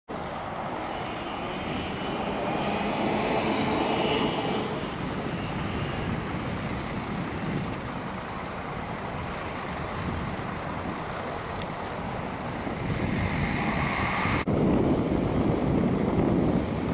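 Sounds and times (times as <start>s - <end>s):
distant propeller planes droning: 0.1s - 16.9s
open-air noise: 0.1s - 16.9s.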